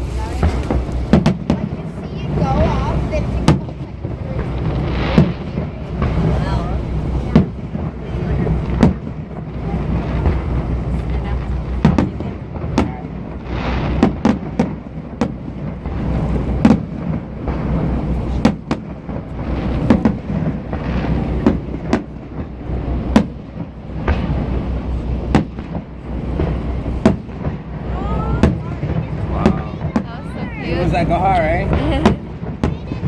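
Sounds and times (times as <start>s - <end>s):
fireworks bangs: 0.0s - 33.0s
low rumble: 0.0s - 33.0s.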